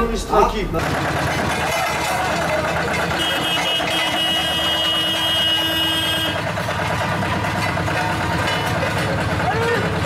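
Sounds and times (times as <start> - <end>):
road roller diesel engine: 0.0 - 10.0.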